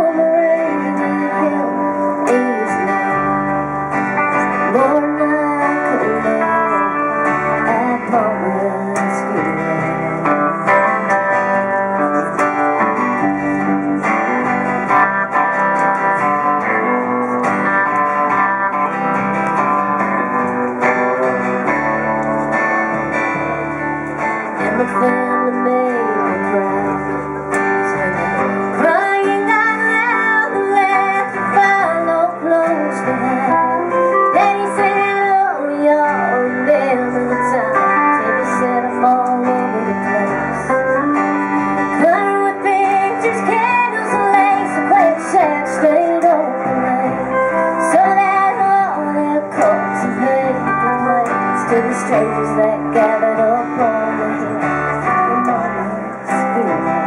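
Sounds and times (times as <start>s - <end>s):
woman singing: 0.0s - 18.8s, 24.2s - 57.0s
second guitar: 0.0s - 57.0s
strummed acoustic guitar: 0.0s - 57.0s.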